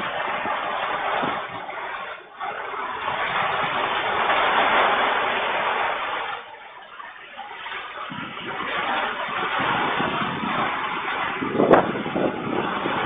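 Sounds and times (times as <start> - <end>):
strong wind with rain: 0.0 - 13.0.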